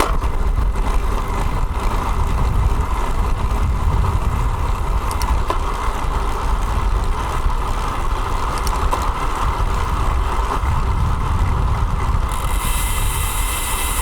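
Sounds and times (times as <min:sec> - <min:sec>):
road and traffic noise: 0:00.0 - 0:14.0
wind rumble on microphone: 0:00.0 - 0:14.0.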